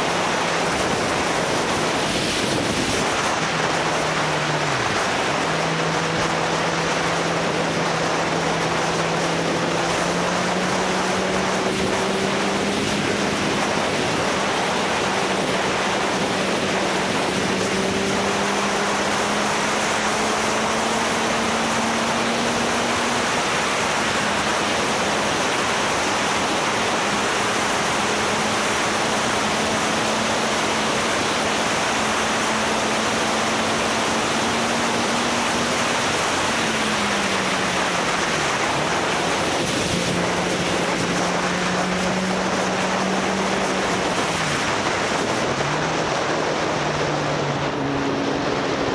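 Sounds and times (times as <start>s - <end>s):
motorcycle engine hum: 0.0s - 48.9s
wind rushing over microphone: 0.0s - 48.9s.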